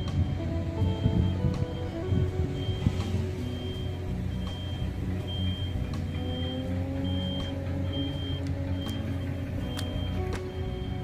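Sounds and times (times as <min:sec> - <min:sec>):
low engine rumble: 0:00.0 - 0:11.0
vehicle warning beeper: 0:00.0 - 0:11.0.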